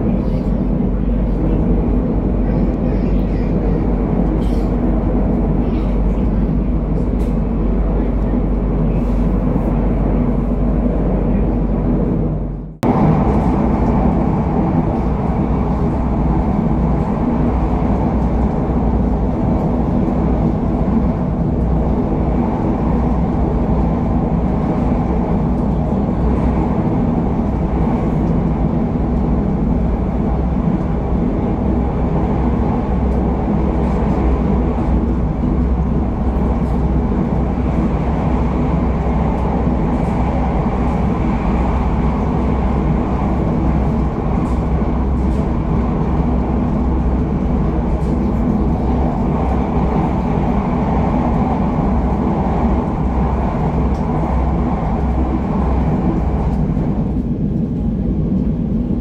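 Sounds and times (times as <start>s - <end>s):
train running at speed: 0.0s - 59.0s.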